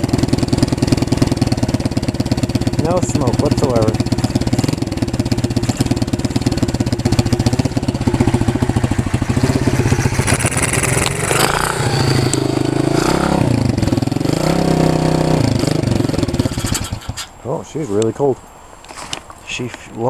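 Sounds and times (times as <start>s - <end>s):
motorbike engine idling unevenly: 0.0s - 17.6s.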